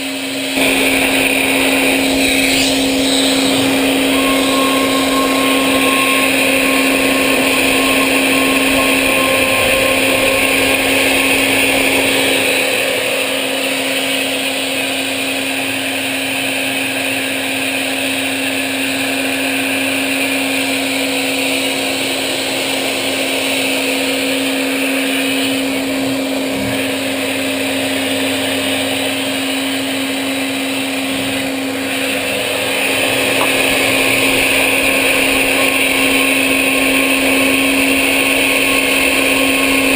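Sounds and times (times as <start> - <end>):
machine motor whine: 0.0 - 39.9.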